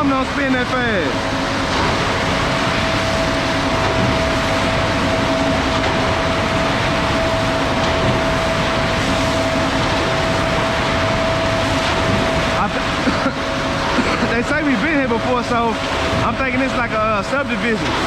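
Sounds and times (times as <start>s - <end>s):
concrete mixer truck running: 0.0s - 18.0s.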